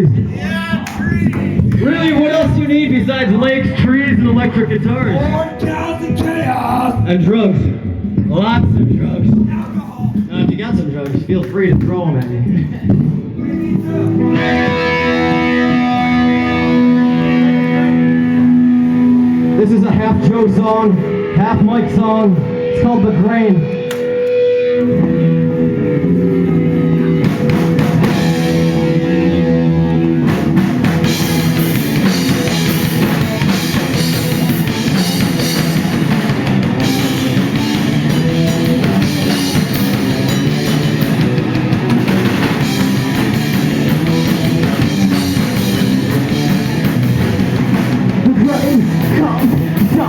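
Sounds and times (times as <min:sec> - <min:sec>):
live rock band playing: 0:00.0 - 0:08.3, 0:12.9 - 0:50.0
drums: 0:00.0 - 0:50.0
guitar notes: 0:00.2 - 0:08.3, 0:13.2 - 0:50.0.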